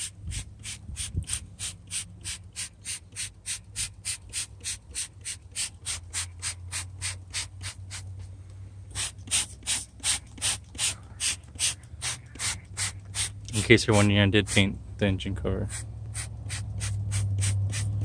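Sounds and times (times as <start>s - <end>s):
spray bottle squirting: 0.0s - 8.3s, 8.9s - 13.7s, 15.7s - 18.0s.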